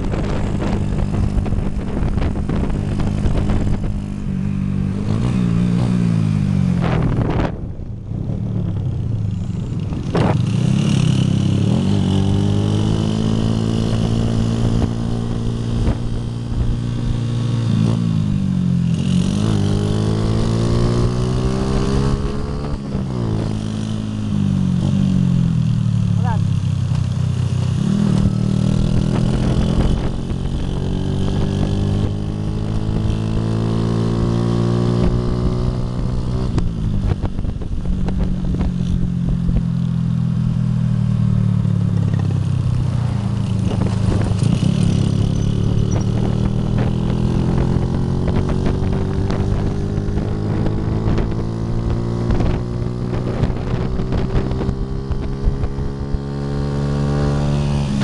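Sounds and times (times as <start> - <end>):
small motorcycle engine revving: 0.0 - 7.5, 9.2 - 40.9, 41.6 - 58.0.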